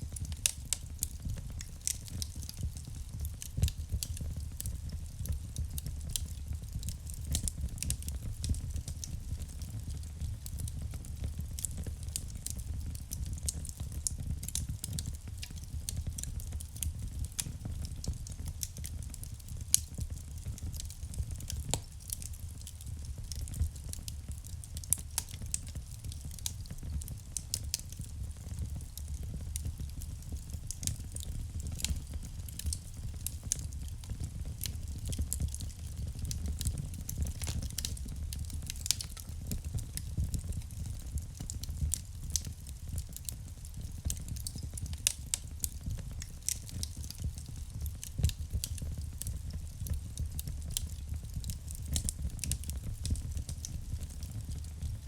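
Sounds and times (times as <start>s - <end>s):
fireplace flame rumble: 0.0s - 55.0s
wood fire crackling and popping: 0.0s - 55.0s.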